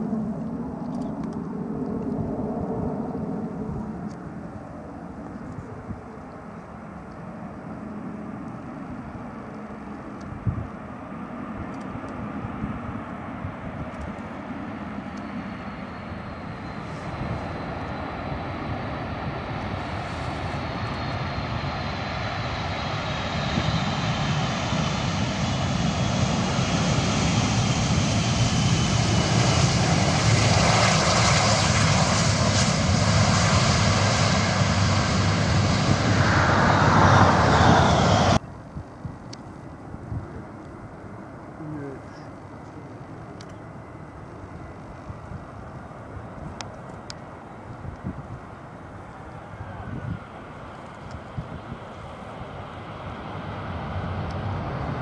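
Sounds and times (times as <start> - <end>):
high jet engine whine: 0.0 - 55.0
jet airliner landing: 0.0 - 55.0.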